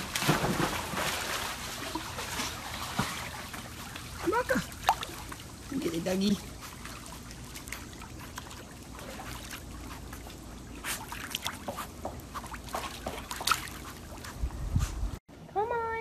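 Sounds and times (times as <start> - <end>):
small sharp splashes: 0.0 - 5.8, 6.6 - 14.3
pool water lapping and splashing: 0.0 - 14.6.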